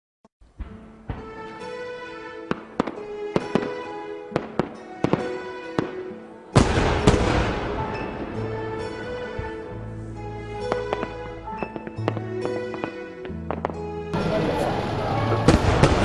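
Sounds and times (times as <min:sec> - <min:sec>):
fireworks banging: 0:00.6 - 0:09.6, 0:10.6 - 0:16.0
music with held notes: 0:00.6 - 0:16.0.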